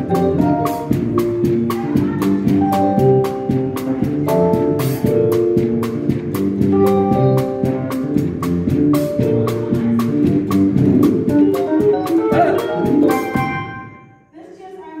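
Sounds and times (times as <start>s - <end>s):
steady drum beat: 0.0s - 13.9s
electronic keyboard melody and chords: 0.0s - 14.2s.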